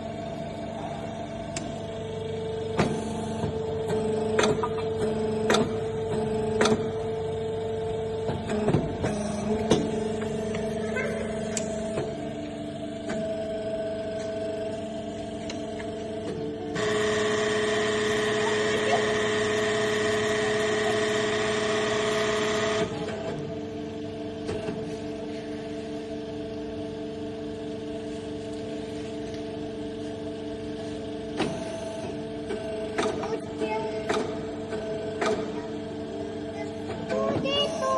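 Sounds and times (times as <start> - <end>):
moulding machine humming: 0.0 - 37.9.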